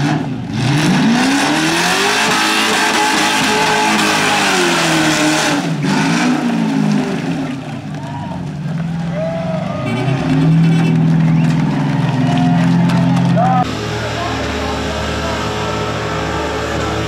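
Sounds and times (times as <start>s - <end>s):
car engine at high revs: 0.0s - 7.9s, 10.2s - 17.0s.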